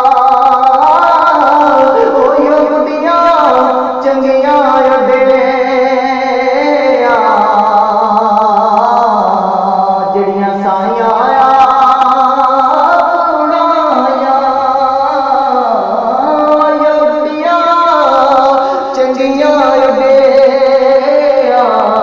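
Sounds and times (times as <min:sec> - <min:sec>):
solo voice singing long sliding notes: 0:00.0 - 0:22.0.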